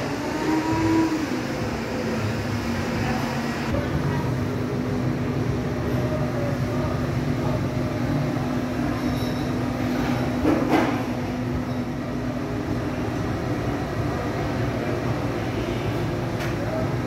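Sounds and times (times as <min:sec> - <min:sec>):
mechanical drone with low hum: 0:00.0 - 0:17.0.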